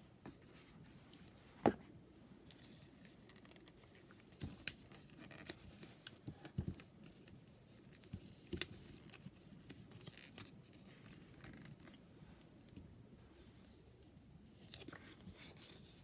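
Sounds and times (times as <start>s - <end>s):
soft rustling: 0.0s - 16.0s.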